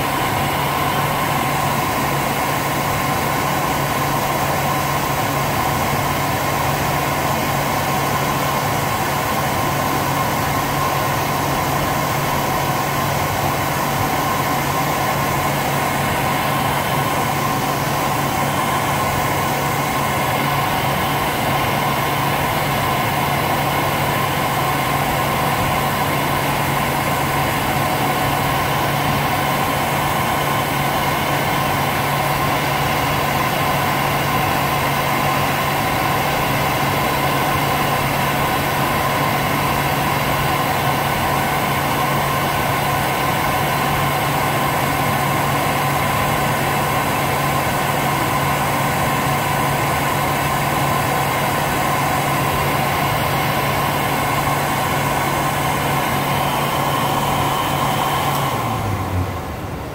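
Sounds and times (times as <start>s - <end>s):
hand dryer motor hum: 0.0s - 59.9s.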